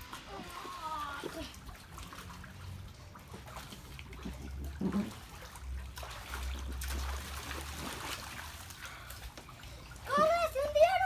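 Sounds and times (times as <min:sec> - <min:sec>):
water splashing in paddling pool: 0:00.0 - 0:11.0.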